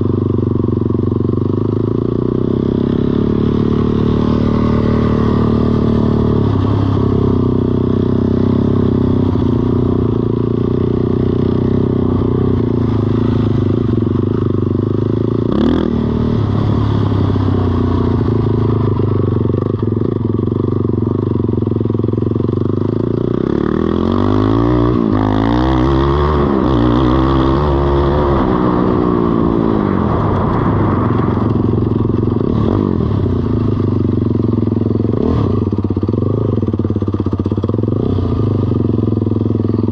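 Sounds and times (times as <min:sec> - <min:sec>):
small atv engine running: 0:00.0 - 0:39.9.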